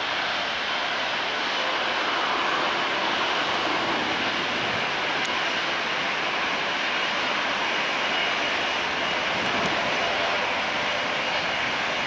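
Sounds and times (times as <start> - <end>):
faint engine whine: 0.0 - 12.0
jet engines rushing: 0.0 - 12.0.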